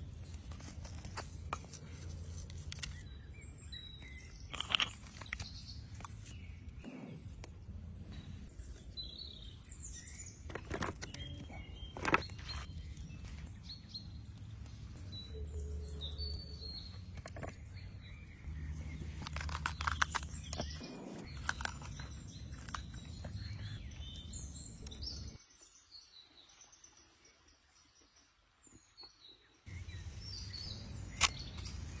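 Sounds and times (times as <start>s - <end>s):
birds chirping: 0.0s - 26.2s, 27.8s - 32.0s.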